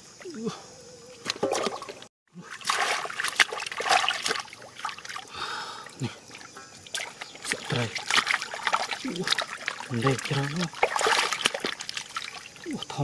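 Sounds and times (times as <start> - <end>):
muddy water splashing: 1.2 - 13.0.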